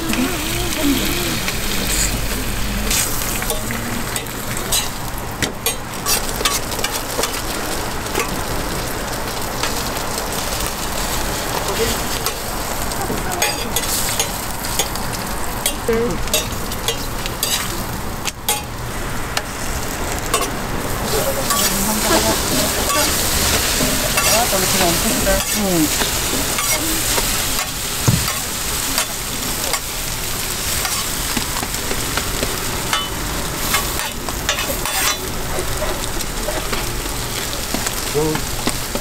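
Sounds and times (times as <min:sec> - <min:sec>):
food sizzling on a griddle: 0:00.0 - 0:39.0.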